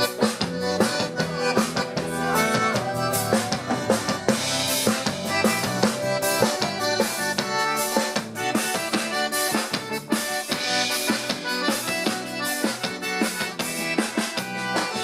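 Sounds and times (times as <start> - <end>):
accordion melody: 0.0 - 15.0
drum kit beat: 0.0 - 15.0.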